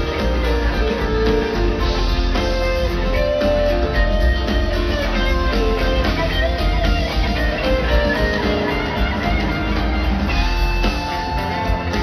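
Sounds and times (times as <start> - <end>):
live rock band: 0.0 - 12.0.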